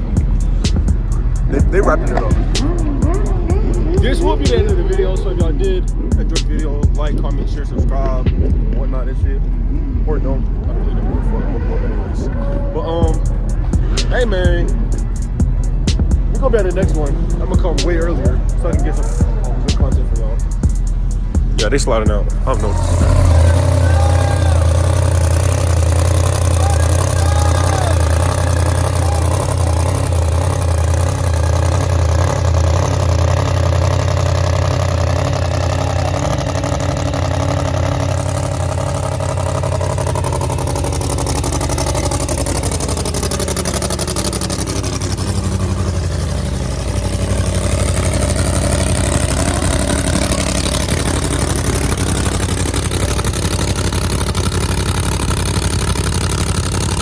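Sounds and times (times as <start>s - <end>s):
car engines rumbling: 0.0s - 57.0s.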